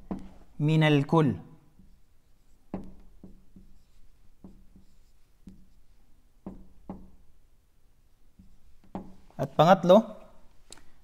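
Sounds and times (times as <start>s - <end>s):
marker pen writing on whiteboard: 0.0s - 9.7s.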